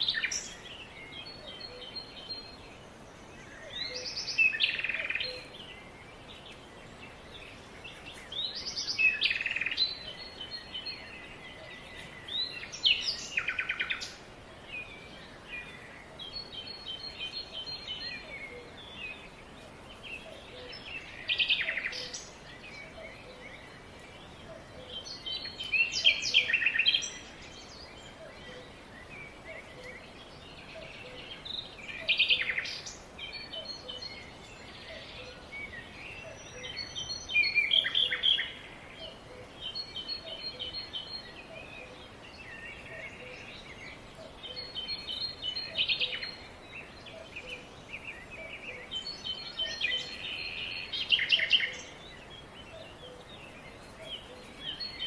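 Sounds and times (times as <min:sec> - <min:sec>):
background hiss: 0:00.0 - 0:55.0
songbirds chirping and trilling: 0:00.0 - 0:55.0.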